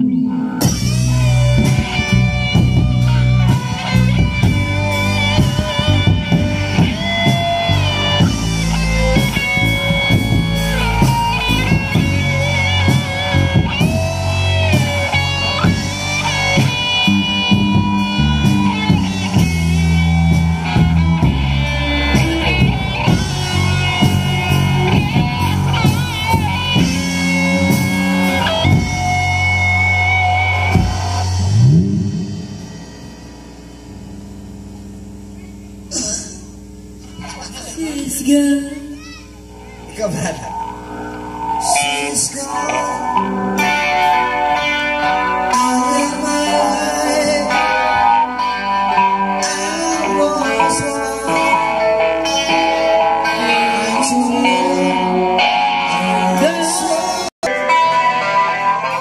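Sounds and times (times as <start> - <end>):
electric guitar lead line: 0.0 - 59.0
live rock band playing: 0.0 - 59.0.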